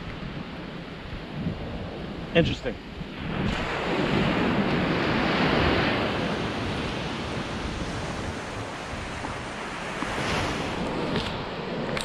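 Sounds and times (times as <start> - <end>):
surf washing up beach: 0.0 - 12.0
wind rumble on microphone: 0.0 - 12.0.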